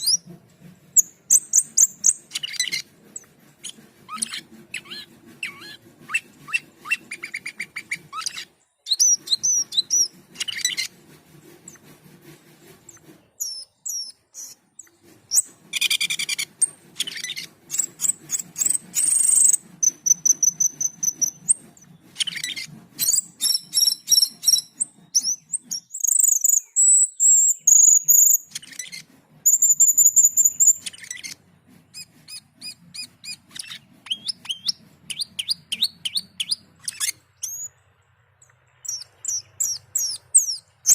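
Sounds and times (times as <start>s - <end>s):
starling singing: 1.0s - 11.0s, 12.9s - 37.8s, 38.4s - 40.9s.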